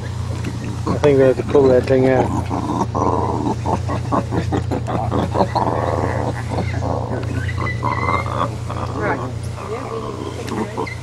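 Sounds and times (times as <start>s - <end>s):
howler monkey grunting: 0.0s - 11.0s
howler monkey roaring: 0.0s - 11.0s.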